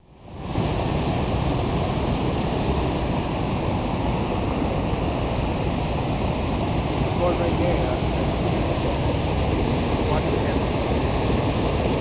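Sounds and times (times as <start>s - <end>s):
waterfall roaring: 0.3s - 12.0s.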